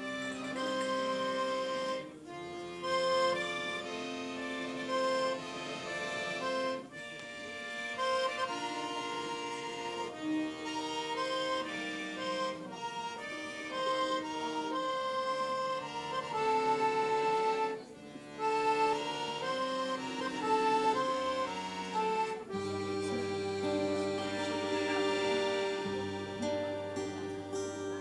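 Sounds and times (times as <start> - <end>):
accordion playing folk tune: 0.0 - 28.0.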